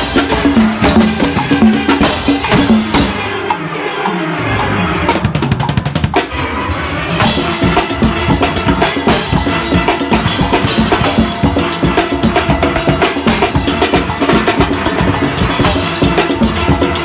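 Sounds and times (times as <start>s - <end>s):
drum kit fast beat: 0.0s - 3.6s, 4.6s - 6.3s, 7.2s - 17.0s
steel band music: 0.0s - 17.0s.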